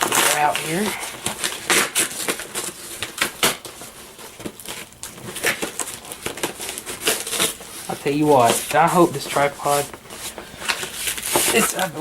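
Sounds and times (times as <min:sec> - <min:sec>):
cardboard box crackling and scraping: 0:00.0 - 0:12.0.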